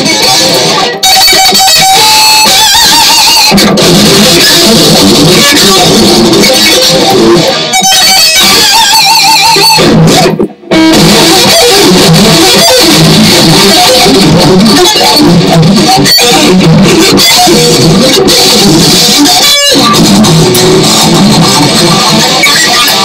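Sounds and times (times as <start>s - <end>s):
loud electric guitar: 0.0s - 23.0s.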